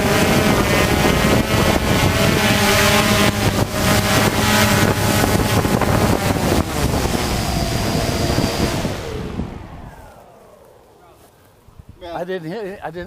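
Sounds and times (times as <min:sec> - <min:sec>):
drone propellers buzzing: 0:00.0 - 0:12.0
wind buffeting microphone: 0:00.0 - 0:13.0.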